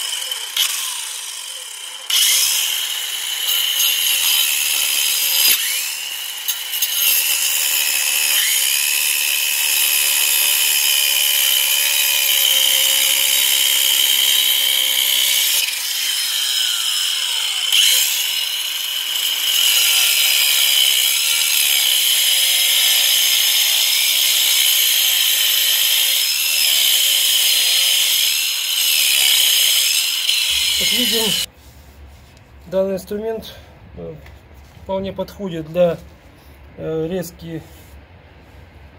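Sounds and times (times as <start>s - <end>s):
angle grinder cutting brick: 0.0s - 31.5s.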